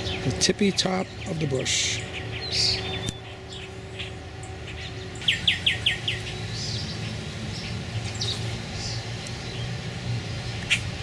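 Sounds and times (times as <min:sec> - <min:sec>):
low background hum: 0:00.0 - 0:11.0
songbird chirping: 0:00.0 - 0:11.0.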